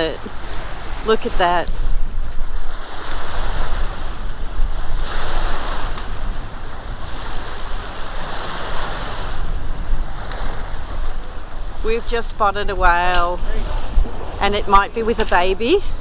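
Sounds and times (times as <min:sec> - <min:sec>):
water rushing along boat hull: 0:00.0 - 0:16.0
wind buffeting microphone: 0:00.0 - 0:16.0.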